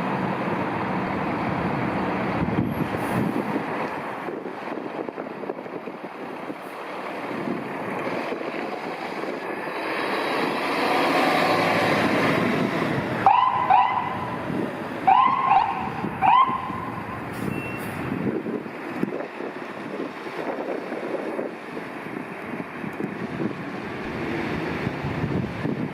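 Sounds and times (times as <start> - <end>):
fire engine and road noise: 0.0 - 25.9.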